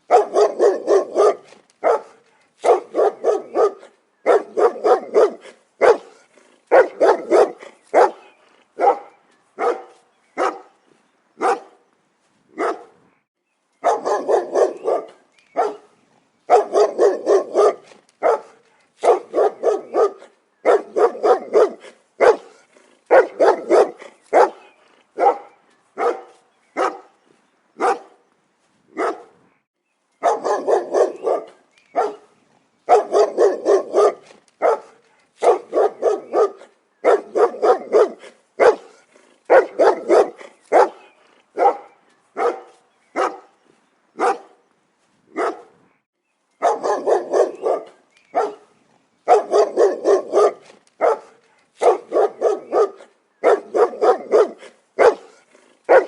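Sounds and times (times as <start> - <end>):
dog barking: 0.0 - 10.7, 11.4 - 11.8, 12.6 - 13.0, 13.8 - 15.9, 16.5 - 27.1, 27.8 - 28.2, 29.0 - 29.4, 30.2 - 32.3, 32.9 - 43.5, 44.2 - 44.6, 45.4 - 45.8, 46.6 - 48.7, 49.3 - 56.0.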